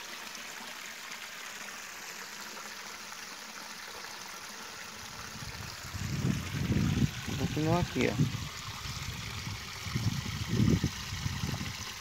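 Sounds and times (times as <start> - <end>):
river water flowing over rocks: 0.0 - 12.0.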